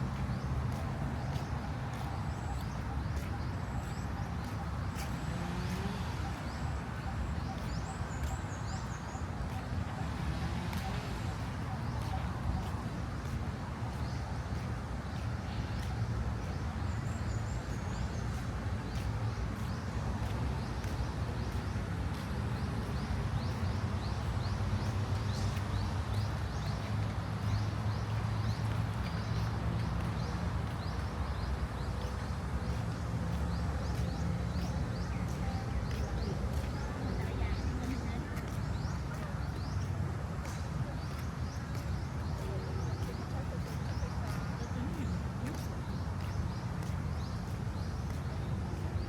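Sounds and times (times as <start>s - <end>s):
faint footsteps on a path: 0.0s - 49.0s
low rumble of city traffic: 0.0s - 49.0s.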